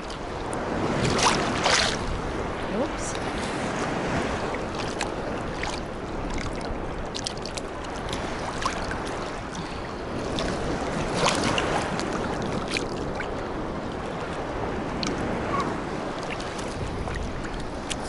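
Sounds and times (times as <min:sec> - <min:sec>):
small waves lapping and sloshing: 0:00.0 - 0:18.0
water splashes close to microphone: 0:00.0 - 0:18.0.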